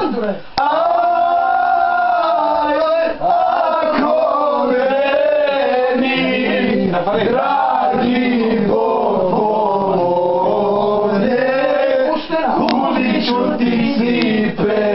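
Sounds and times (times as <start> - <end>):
group of voices singing: 0.0 - 14.9.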